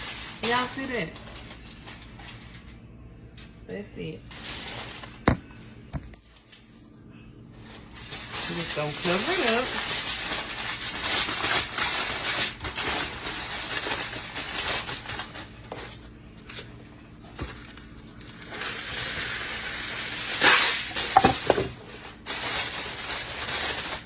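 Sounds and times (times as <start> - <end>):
aluminium foil crinkling: 0.0 - 2.8, 4.2 - 6.7, 7.6 - 24.0.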